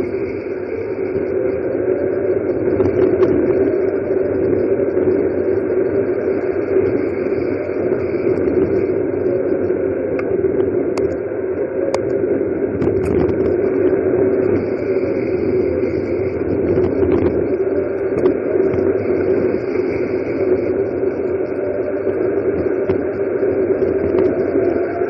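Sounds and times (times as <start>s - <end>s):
muffled wind: 0.0s - 25.0s.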